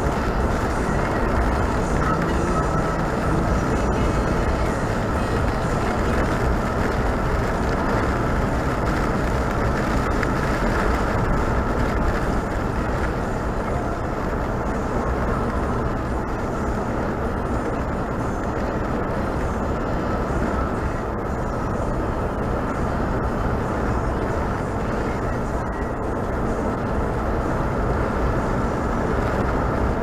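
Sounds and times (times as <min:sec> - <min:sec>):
car engine running: 0:00.0 - 0:30.0
road and tyre noise: 0:00.0 - 0:30.0.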